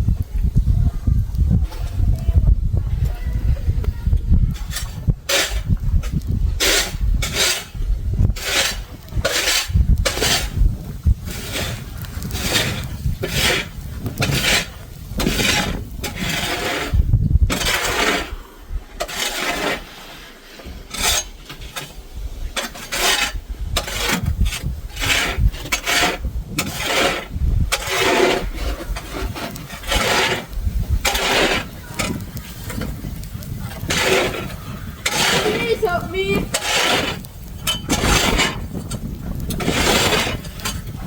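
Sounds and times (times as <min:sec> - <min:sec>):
rough scraping strokes: 0:04.4 - 0:41.0.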